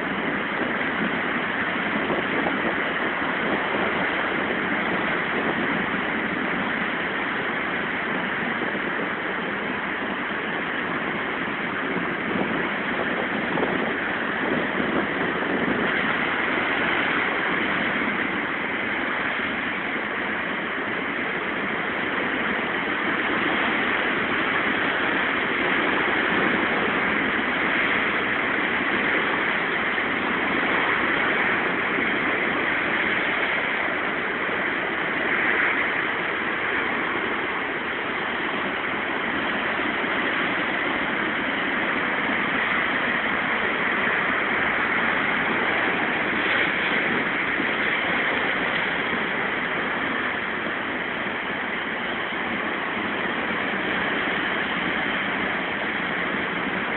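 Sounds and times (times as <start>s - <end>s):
heavy surf breaking over rocks: 0.0s - 56.9s.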